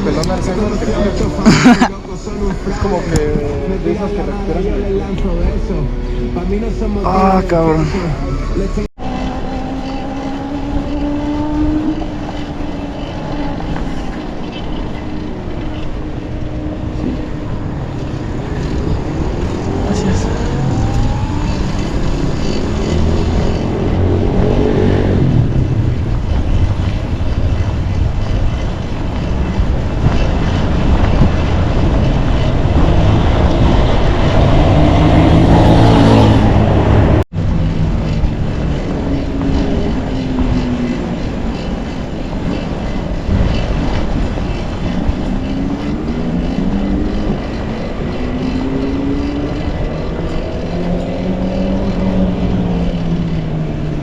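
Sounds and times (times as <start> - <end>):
low traffic rumble: 0.0 - 54.0
vehicle engines accelerating: 0.0 - 54.0.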